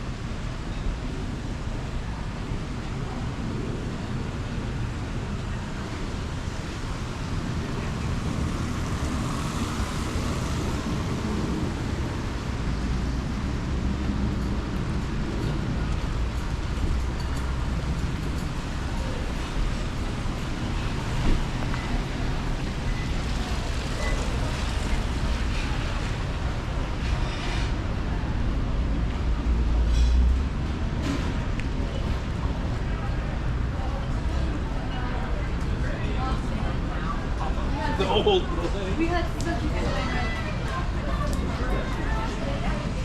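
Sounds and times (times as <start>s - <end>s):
city street traffic: 0.0s - 43.0s.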